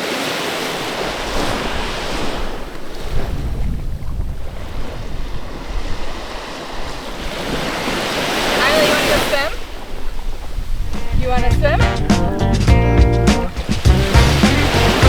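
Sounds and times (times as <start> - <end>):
sea water lapping: 0.0 - 12.2, 13.3 - 15.0
wind buffeting microphone: 0.8 - 15.0.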